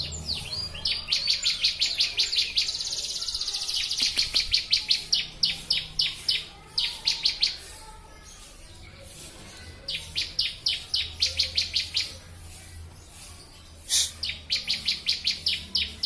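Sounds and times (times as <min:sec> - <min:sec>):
bird high chirping song: 0:00.0 - 0:16.0.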